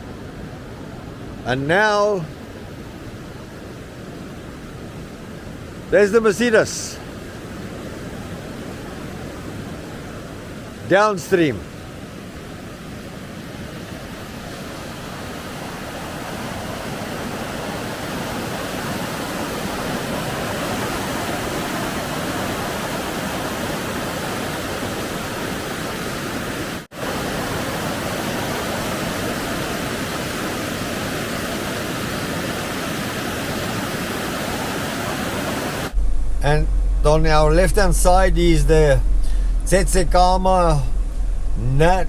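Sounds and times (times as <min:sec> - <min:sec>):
rushing floodwater roar: 0:00.0 - 0:42.0.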